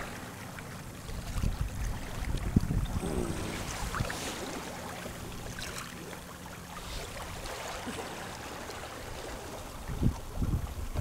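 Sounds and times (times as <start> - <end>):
water rushing along boat hull: 0.0 - 11.0.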